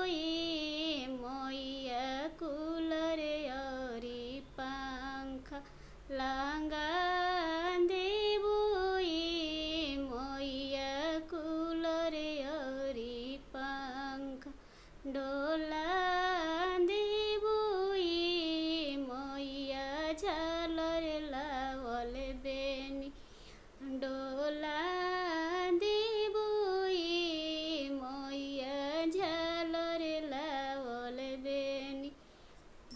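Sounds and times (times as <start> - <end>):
woman singing unaccompanied: 0.0 - 23.2, 23.8 - 32.2.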